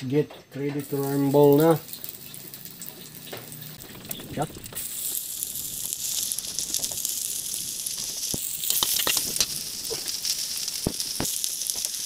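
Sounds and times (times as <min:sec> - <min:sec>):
garlic and onion sizzling in oil: 0:00.7 - 0:12.0.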